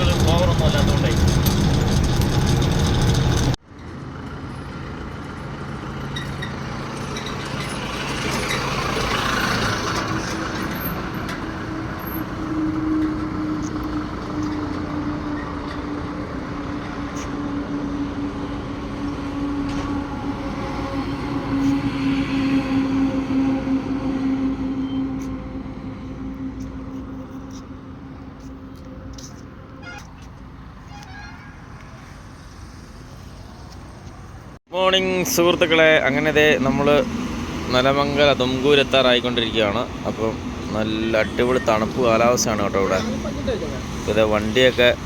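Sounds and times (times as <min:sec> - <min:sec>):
lorry engine hum: 0:00.0 - 0:30.8, 0:35.2 - 0:45.0
road and wind noise: 0:00.0 - 0:45.0.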